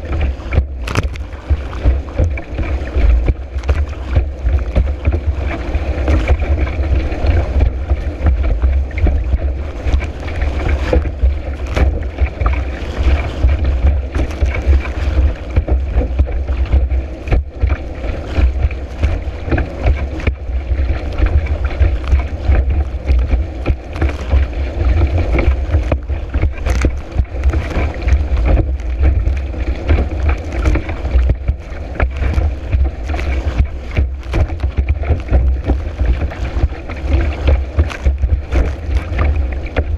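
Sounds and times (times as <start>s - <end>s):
board knocking on waves: 0.0s - 39.9s
heavy wind rumble: 0.0s - 39.9s
rushing water: 0.0s - 39.9s.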